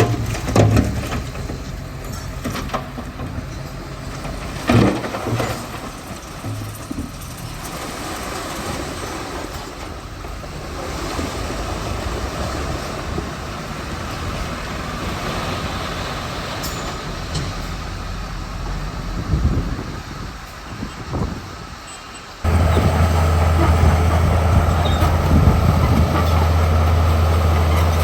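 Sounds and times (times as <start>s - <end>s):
bulldozer diesel engine: 0.0s - 28.0s.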